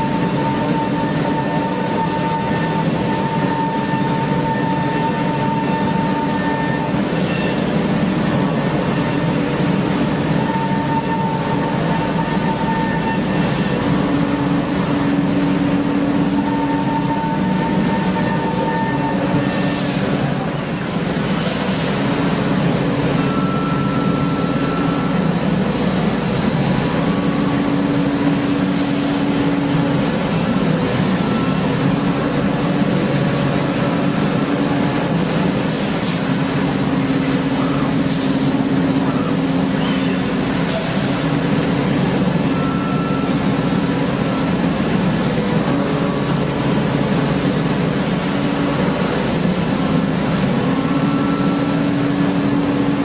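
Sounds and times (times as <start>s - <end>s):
high machine whine: 0.0s - 53.0s
industrial machinery hum: 0.0s - 53.0s.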